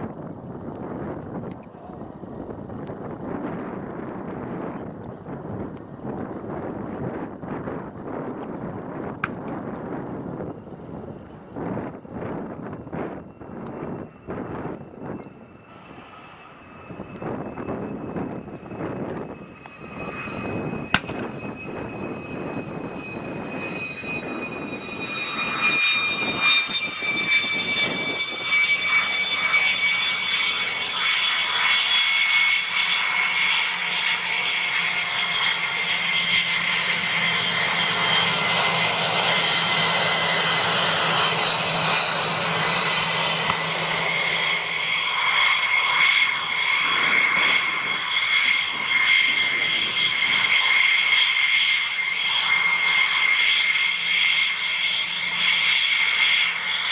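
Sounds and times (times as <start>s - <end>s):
jet engine whine: 0.0s - 56.9s.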